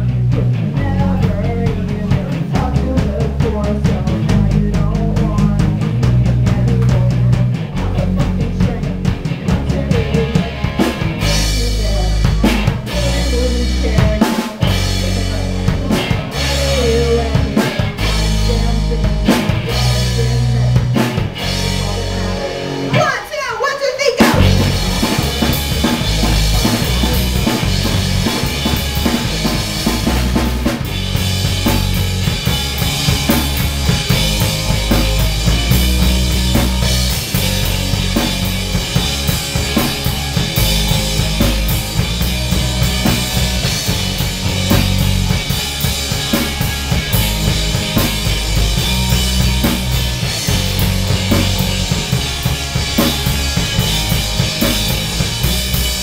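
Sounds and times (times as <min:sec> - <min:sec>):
live punk-pop band playing: 0:00.0 - 0:56.0.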